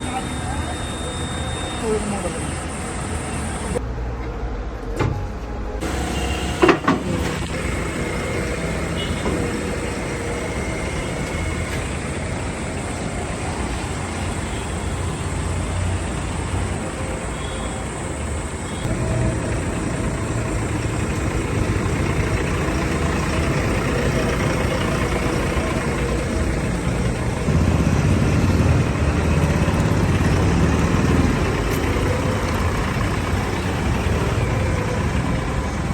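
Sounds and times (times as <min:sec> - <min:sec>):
diesel engine running: 0:00.0 - 0:03.8, 0:05.8 - 0:35.9.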